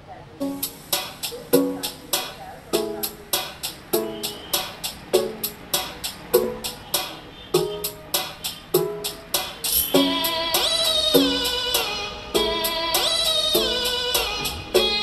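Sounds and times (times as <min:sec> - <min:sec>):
music with percussive beat: 0:00.4 - 0:15.0.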